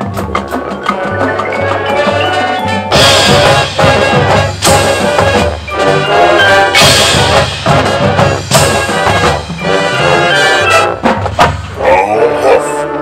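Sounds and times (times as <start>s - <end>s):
brass chords with accented hits: 0.0s - 13.0s
marching percussion: 0.0s - 13.0s.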